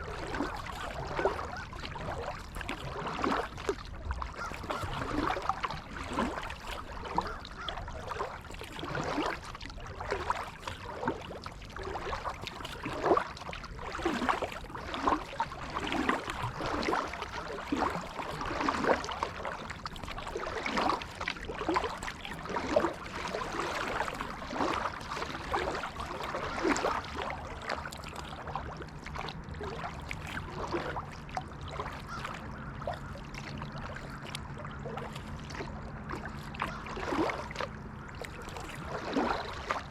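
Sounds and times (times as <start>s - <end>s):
paddle splashing in water: 0.0s - 39.9s
water trickling and dripping: 0.0s - 39.9s.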